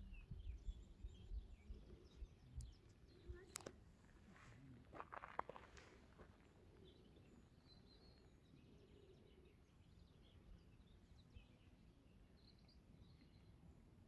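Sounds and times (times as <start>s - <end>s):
faint songbirds chirping: 0.0s - 14.0s.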